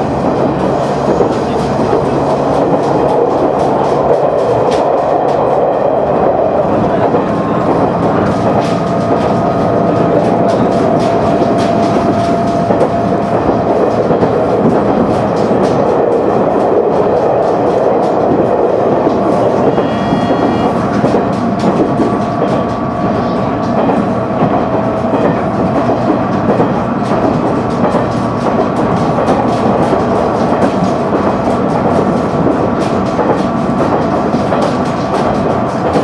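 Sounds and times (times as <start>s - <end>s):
railcar engine and wheels rumbling: 0.0s - 36.0s
wheels clicking over rail joints: 0.0s - 36.0s.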